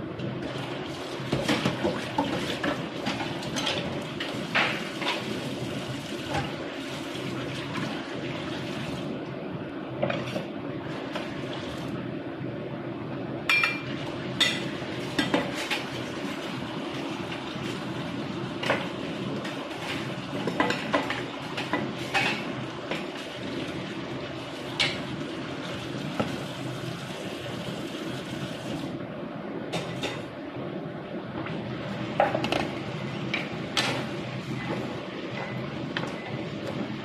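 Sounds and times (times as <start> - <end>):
food simmering in a covered pan: 0.0 - 37.0.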